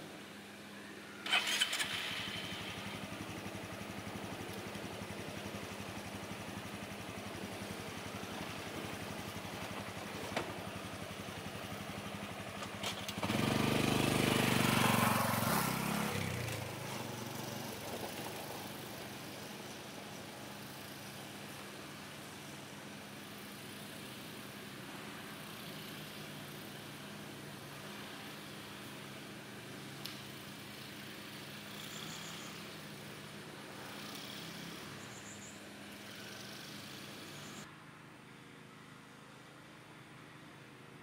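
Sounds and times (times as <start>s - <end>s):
motorbike engine starting and idling: 0.0s - 37.7s
motorbike revving and pulling away: 1.1s - 37.7s.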